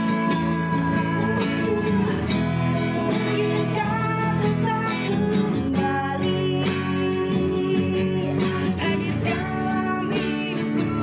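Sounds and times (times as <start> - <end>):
guitar music with steady beat: 0.0 - 11.0.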